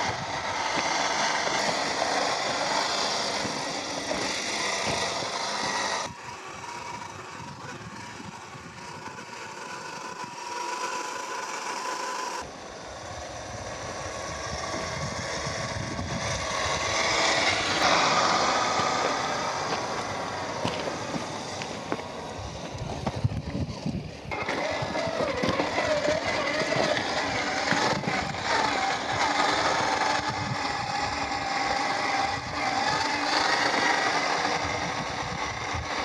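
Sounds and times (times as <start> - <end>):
drivetrain and tires noise: 0.0 - 36.0
electric motor whine: 0.0 - 36.0.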